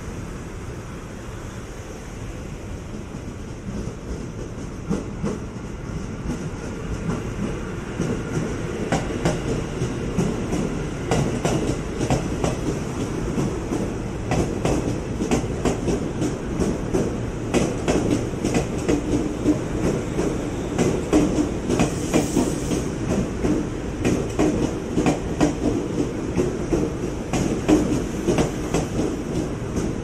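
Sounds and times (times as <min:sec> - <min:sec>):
electric train rumble: 0:00.0 - 0:30.0
train wheels clacking over rail joints: 0:03.6 - 0:30.0.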